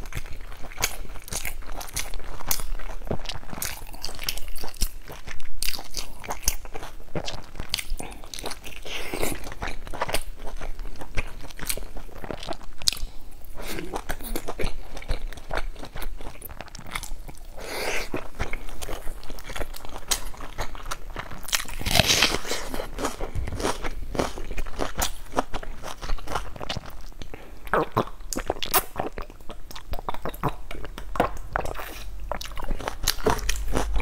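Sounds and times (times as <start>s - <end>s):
person chewing with wet clicks: 0.0s - 34.0s.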